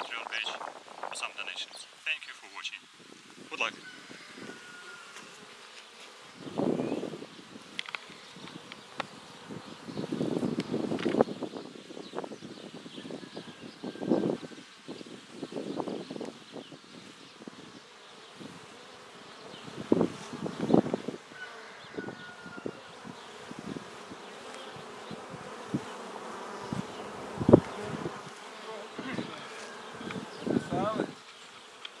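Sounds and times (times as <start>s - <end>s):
honeybees buzzing: 0.0s - 32.0s
bees flying past microphone: 3.8s - 32.0s.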